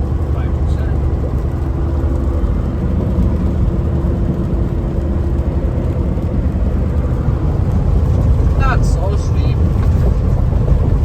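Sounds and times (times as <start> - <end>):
diesel truck engine drone: 0.0 - 11.0
road rumble: 0.0 - 11.0.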